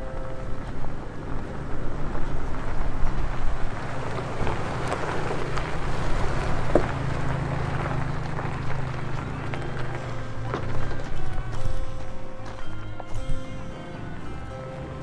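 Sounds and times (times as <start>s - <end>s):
rough tyre noise: 0.0s - 15.0s
vehicle engine running: 0.0s - 15.0s.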